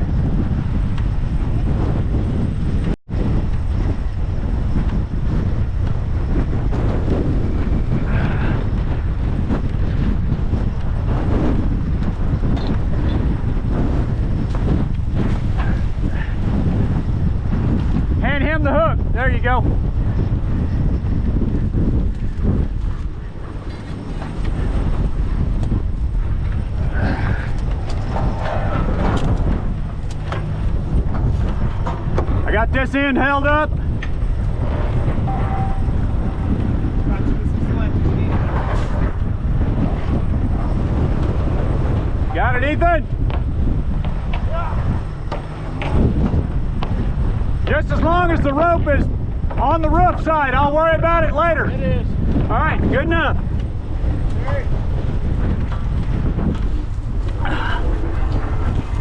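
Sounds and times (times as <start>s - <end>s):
strong wind buffeting microphone: 0.0s - 59.0s.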